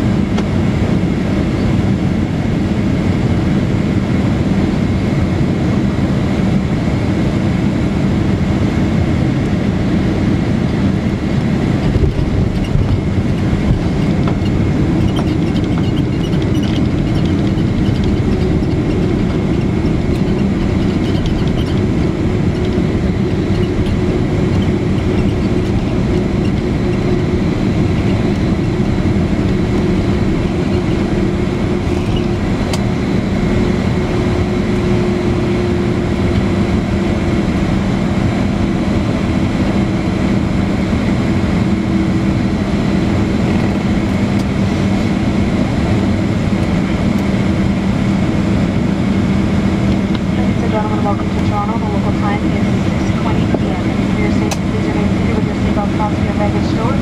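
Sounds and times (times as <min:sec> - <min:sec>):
airplane cabin engine roar: 0:00.0 - 0:57.0.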